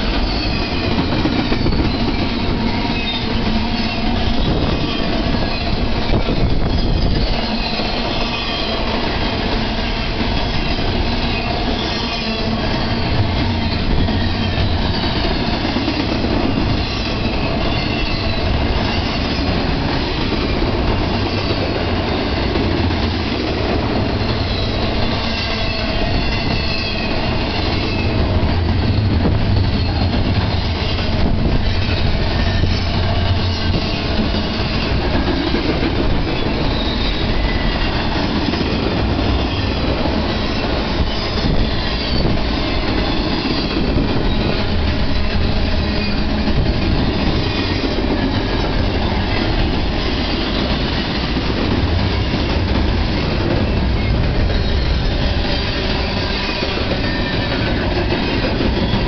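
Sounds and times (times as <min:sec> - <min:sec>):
high wheel squeal: 0:00.0 - 0:20.2, 0:24.2 - 0:51.4, 0:53.2 - 0:59.0
train wheels rumbling on rail: 0:00.0 - 0:59.0.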